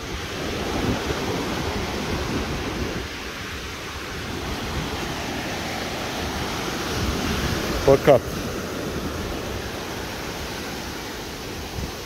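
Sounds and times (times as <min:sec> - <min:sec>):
ocean surf breaking on beach: 0:00.0 - 0:12.0
wind rumbling on microphone: 0:00.0 - 0:12.0.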